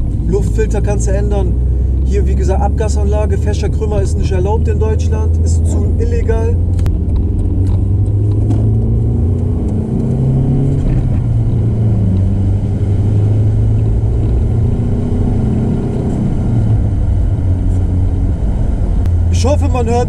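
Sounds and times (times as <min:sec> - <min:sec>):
car exhaust drone: 0:00.0 - 0:20.0.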